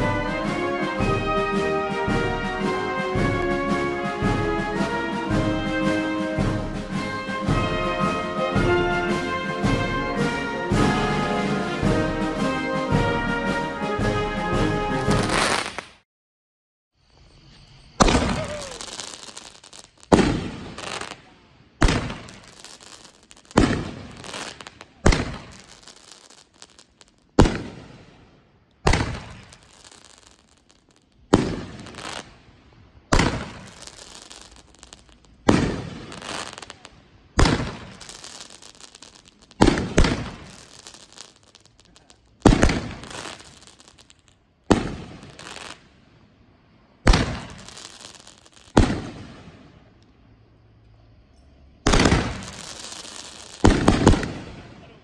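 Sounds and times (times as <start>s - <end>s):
firework booms with echo: 0.0s - 15.8s, 18.0s - 32.5s, 33.1s - 46.0s, 47.0s - 49.8s, 51.8s - 55.0s.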